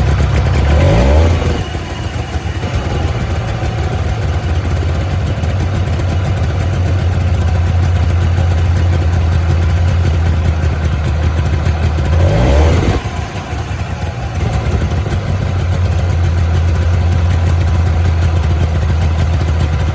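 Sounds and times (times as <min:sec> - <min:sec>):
small engine idling and revving: 0:00.0 - 0:19.9.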